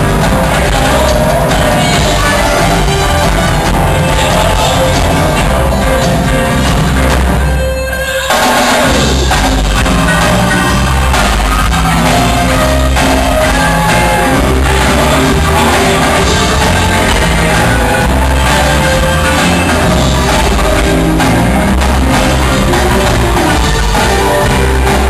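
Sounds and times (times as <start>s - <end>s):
live band playing loud: 0.0s - 25.0s.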